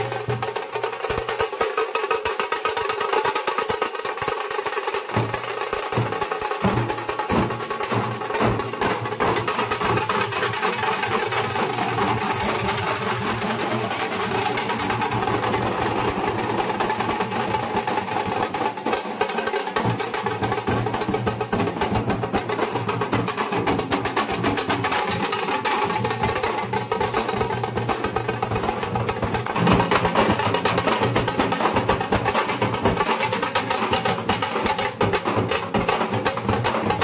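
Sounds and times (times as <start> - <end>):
fast rattle of small drums: 0.0 - 37.0
large drums beaten with sticks: 4.0 - 37.0.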